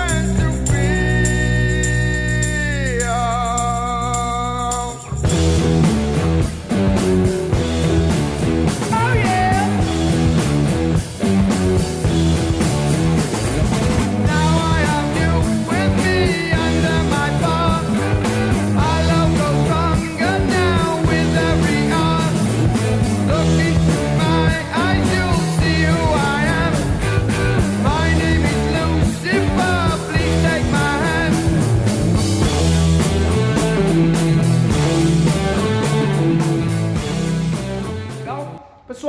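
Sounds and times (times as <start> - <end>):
rock song with guitar and singing: 0.0 - 38.8.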